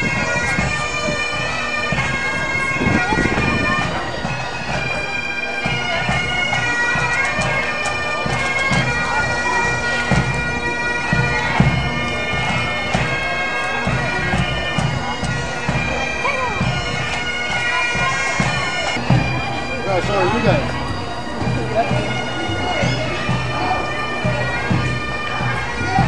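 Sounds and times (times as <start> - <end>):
bagpipes playing: 0.0 - 26.0.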